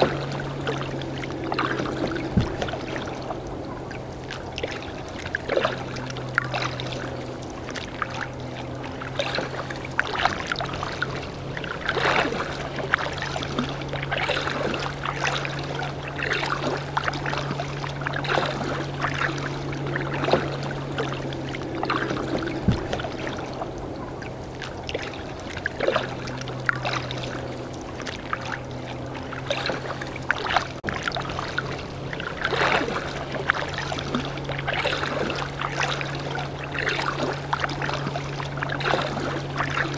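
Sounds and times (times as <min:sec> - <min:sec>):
paddle splashing in water: 0:00.0 - 0:39.9
steady low hum: 0:00.0 - 0:39.9.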